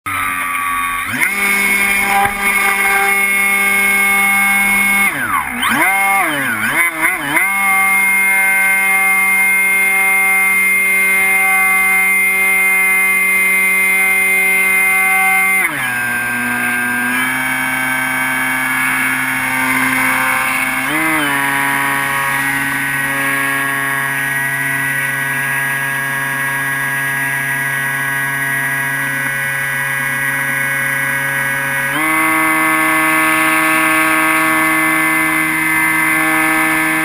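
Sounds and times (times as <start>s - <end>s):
electric motor and propeller whine: 0.1s - 37.0s.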